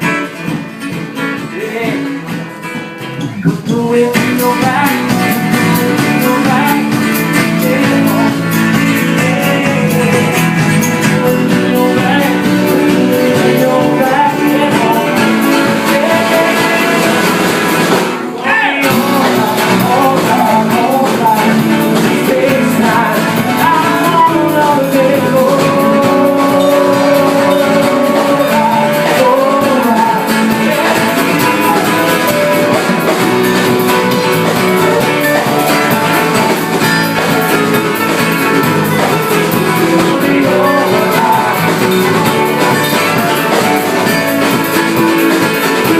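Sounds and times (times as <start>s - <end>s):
live band playing instrumental: 0.0s - 45.9s
wavering lead melody: 6.8s - 45.9s.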